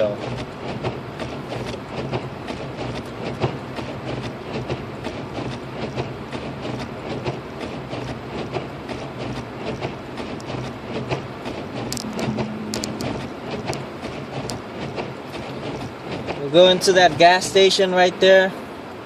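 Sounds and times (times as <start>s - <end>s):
road and engine drone: 0.0s - 19.0s.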